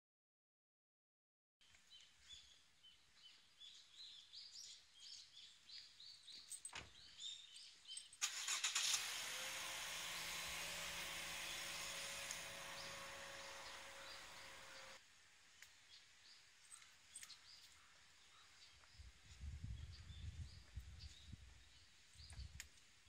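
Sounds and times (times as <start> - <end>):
small birds chirping: 1.6 - 8.6, 11.3 - 23.0.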